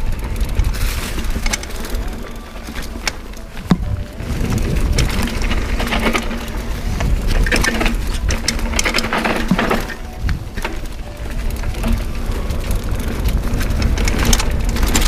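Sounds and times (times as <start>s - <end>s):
bike rattling clicks: 0.0s - 15.0s
bike tyres crunching on stones: 0.0s - 15.0s
low rumble of wind: 0.0s - 15.0s.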